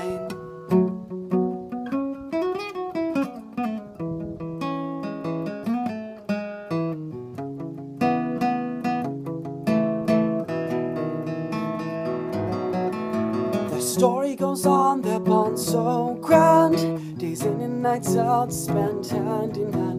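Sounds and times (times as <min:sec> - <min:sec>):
acoustic guitar playing chords: 0:00.0 - 0:19.9.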